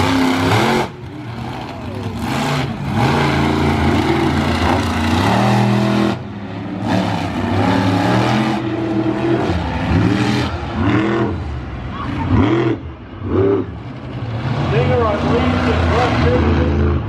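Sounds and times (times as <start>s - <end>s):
racing engines revving: 0.0s - 17.0s.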